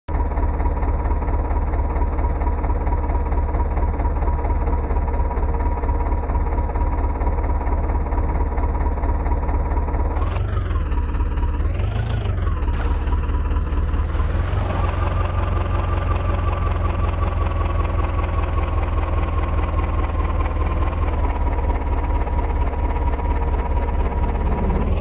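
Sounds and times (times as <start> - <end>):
heavy diesel engine running: 0.1 - 25.0.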